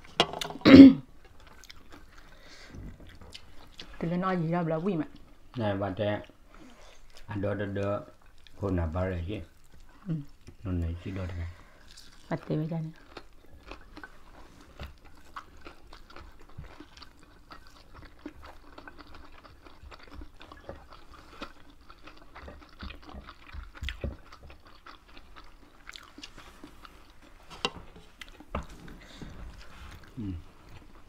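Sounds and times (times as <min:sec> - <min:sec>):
people chewing and biting food: 0:01.2 - 0:04.0, 0:05.1 - 0:31.0.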